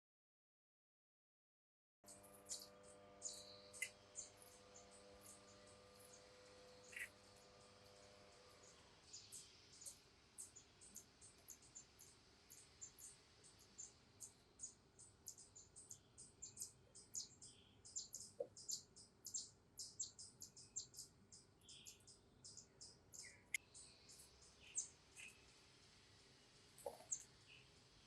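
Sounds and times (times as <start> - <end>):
small birds chirping: 2.0 - 28.0.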